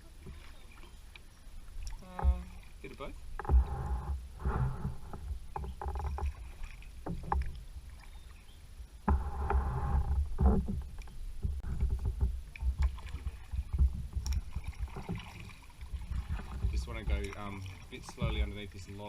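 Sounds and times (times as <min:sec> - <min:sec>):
paddle splashing in water: 0:00.0 - 0:19.0.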